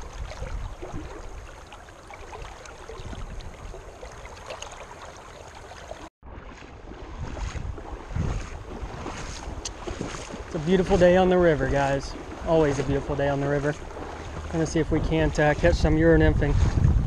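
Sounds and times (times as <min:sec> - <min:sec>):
river rushing and splashing: 0:00.0 - 0:14.8.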